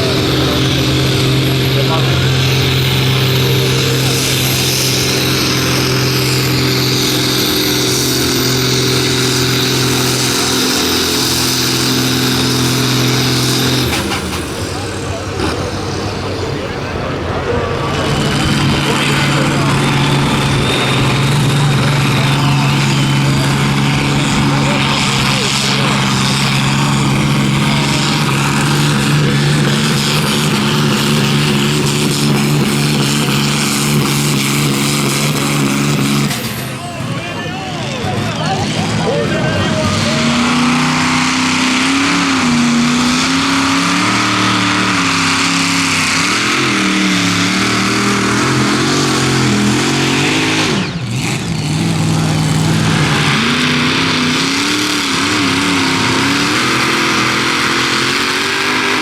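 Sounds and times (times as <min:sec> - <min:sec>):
tractor engine at high revs: 0:00.0 - 0:59.0.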